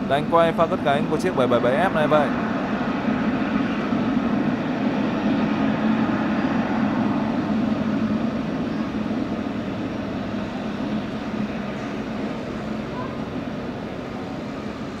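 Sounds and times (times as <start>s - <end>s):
jet engines at taxi power: 0.0s - 15.0s.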